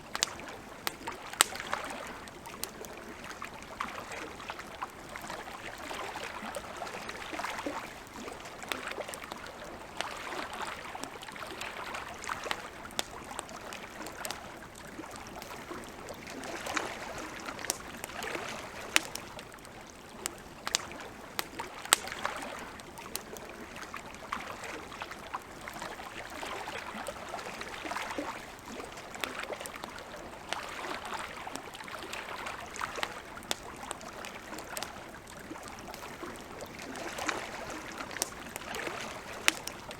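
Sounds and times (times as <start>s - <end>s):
wood fire crackling: 0.0s - 10.2s, 11.4s - 26.3s, 32.0s - 39.9s
small waves lapping: 0.0s - 39.9s.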